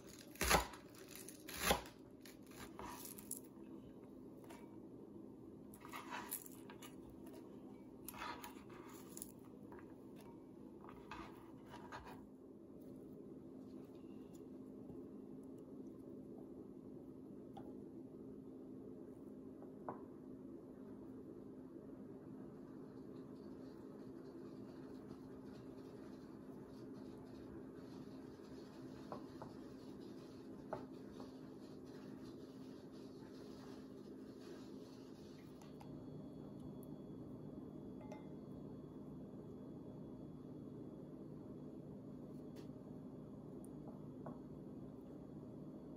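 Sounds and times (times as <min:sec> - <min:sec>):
low room hum: 0:00.0 - 0:45.9.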